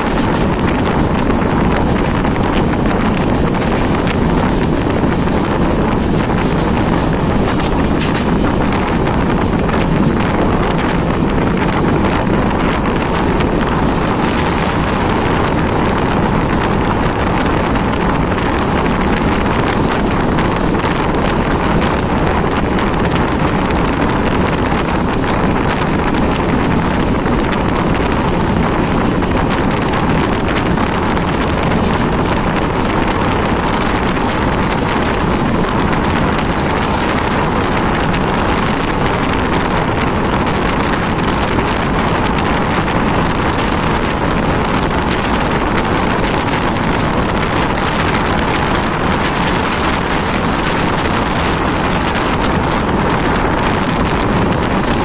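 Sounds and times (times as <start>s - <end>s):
train running on rails: 0.0s - 55.0s
wind rushing on microphone: 0.0s - 55.0s.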